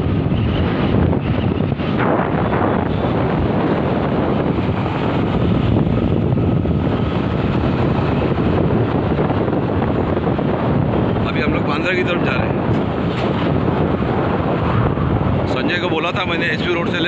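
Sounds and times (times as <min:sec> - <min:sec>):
road and engine noise: 0:00.0 - 0:17.0
wind buffeting microphone: 0:00.0 - 0:17.0.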